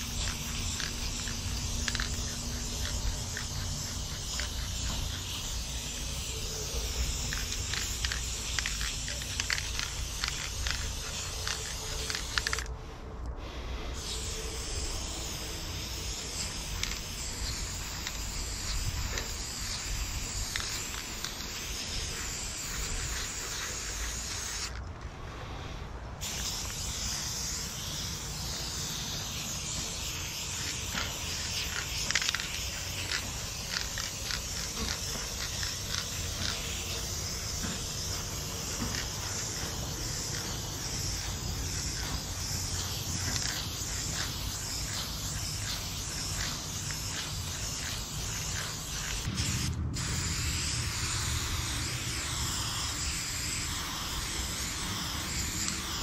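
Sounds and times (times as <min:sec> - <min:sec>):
aerosol spray can hissing: 0:00.0 - 0:12.8, 0:13.5 - 0:24.8, 0:26.2 - 0:56.0.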